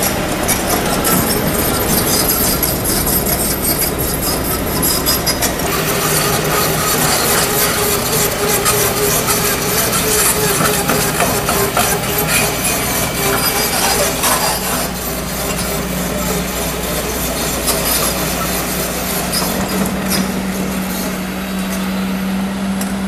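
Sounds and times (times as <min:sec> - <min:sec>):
bucket and tracks scraping: 0:00.0 - 0:22.0
steady whine: 0:00.0 - 0:22.9
excavator diesel engine: 0:00.0 - 0:23.0.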